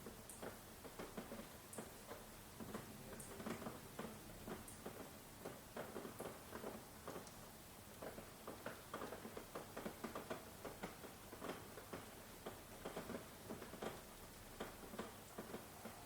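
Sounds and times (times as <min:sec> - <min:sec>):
faint steady hiss: 0:00.0 - 0:16.0
raindrops pattering: 0:00.0 - 0:16.0.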